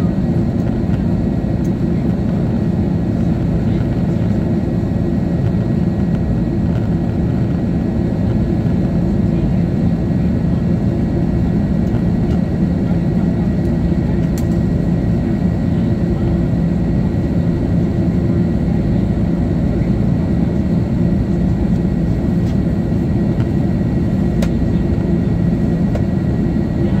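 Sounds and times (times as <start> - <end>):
aircraft engine rumble: 0.0 - 27.0
steady low hum: 0.0 - 27.0.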